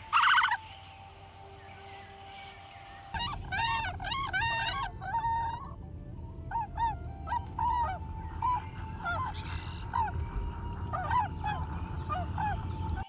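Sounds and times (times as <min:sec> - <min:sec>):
geese honking: 0:00.0 - 0:13.0
low rumble: 0:00.9 - 0:13.0.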